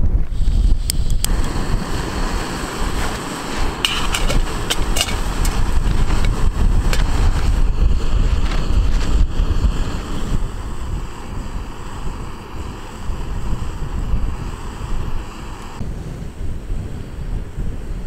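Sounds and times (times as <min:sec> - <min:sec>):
wind buffeting microphone: 0:00.0 - 0:18.0
gas stove burning hiss: 0:00.1 - 0:18.0.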